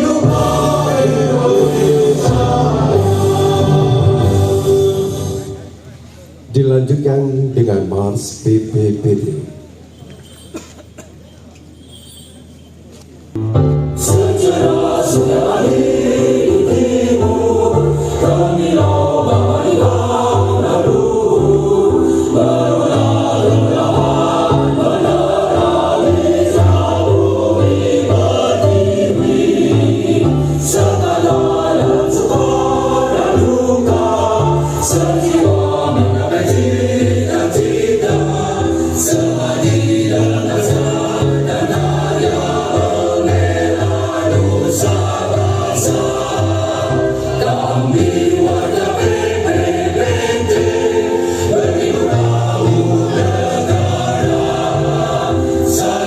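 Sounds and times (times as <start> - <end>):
choir singing march song: 0.0 - 5.7, 14.0 - 56.0.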